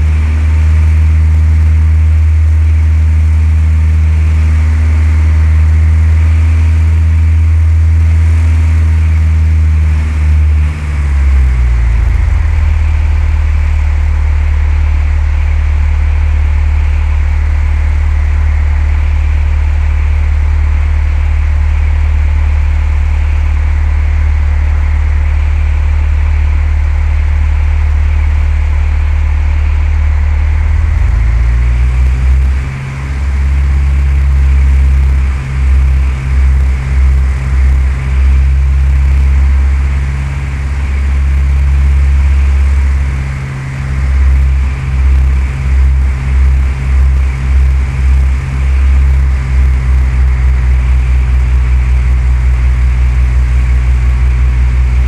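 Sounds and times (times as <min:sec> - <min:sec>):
airplane engine and propeller droning: 0:00.0 - 0:55.0.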